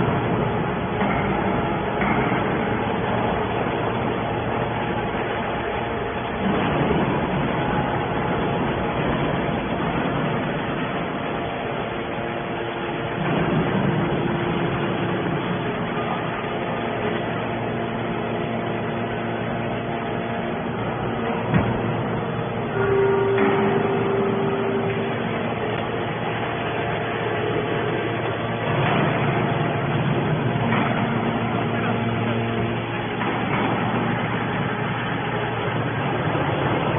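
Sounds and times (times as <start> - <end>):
baler machine running: 0.0 - 36.9
faint pump hum: 0.0 - 36.9.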